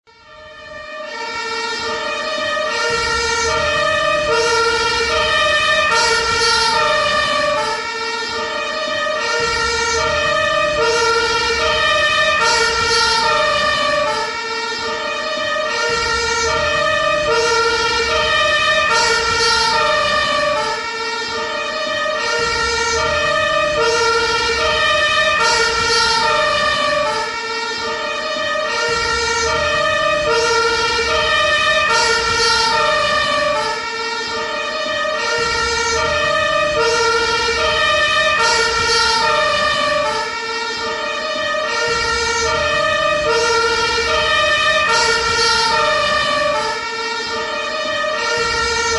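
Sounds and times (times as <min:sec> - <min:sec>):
ambulance siren two-tone wail: 0:00.0 - 0:48.9.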